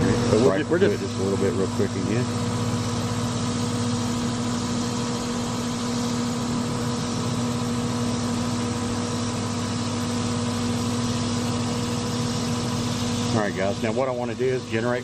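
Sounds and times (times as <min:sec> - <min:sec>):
compressor electrical hum: 0:00.0 - 0:15.0
condenser fan rushing: 0:00.0 - 0:15.0.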